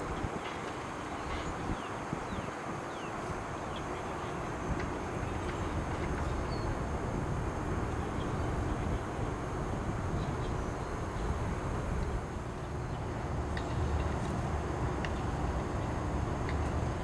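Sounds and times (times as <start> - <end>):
steady low rumble: 3.2 - 17.0.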